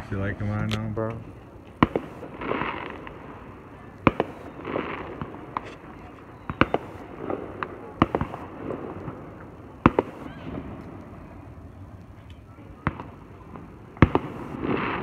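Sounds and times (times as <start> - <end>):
fireworks bangs: 0.0 - 11.8, 12.6 - 15.0
fireworks pops and rumble: 0.5 - 15.0.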